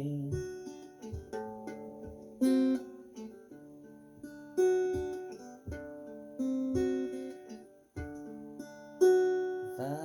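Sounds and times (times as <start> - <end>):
acoustic guitar strummed chords: 0.0 - 10.0
picked guitar notes: 0.0 - 10.0.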